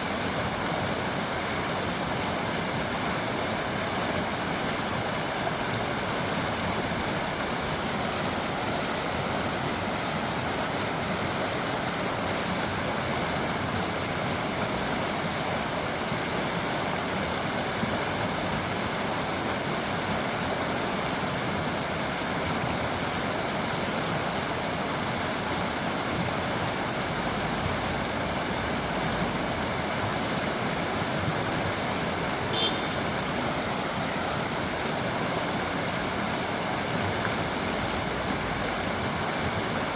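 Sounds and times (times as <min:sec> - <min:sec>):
creek water babbling over stones: 0:00.0 - 0:39.9.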